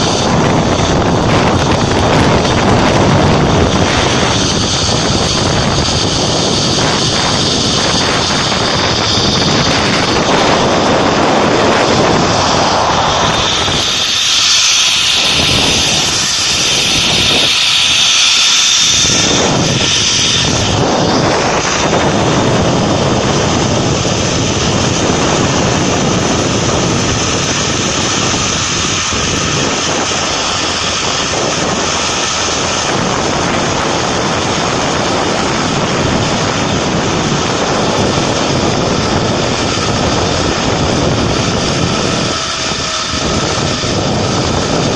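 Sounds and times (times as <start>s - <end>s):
high hissing whine: 0.0s - 44.9s
trolley running along steel cable: 0.0s - 44.9s
wind rushing over microphone: 0.0s - 44.9s.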